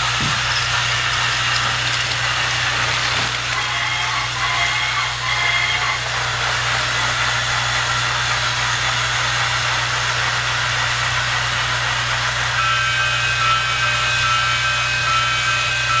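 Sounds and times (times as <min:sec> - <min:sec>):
toy train motors whirring: 0:00.0 - 0:16.0.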